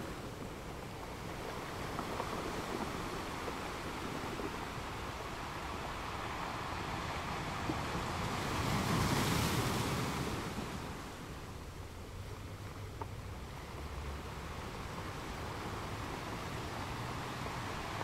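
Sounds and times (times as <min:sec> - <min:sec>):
sea waves washing: 0:00.0 - 0:18.0.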